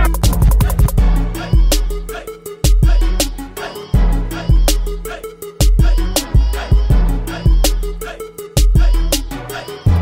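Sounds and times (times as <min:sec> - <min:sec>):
hip hop music with deep bass: 0:00.0 - 0:10.0.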